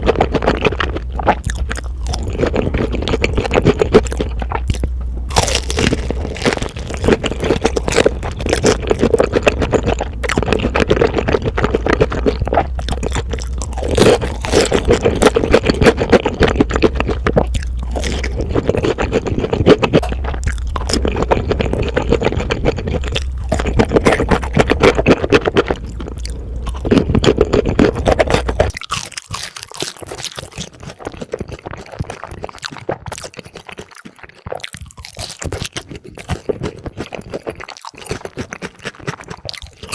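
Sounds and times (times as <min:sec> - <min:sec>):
crunching and chewing fried chicken: 0:00.0 - 0:39.9
low background hum: 0:00.0 - 0:39.9.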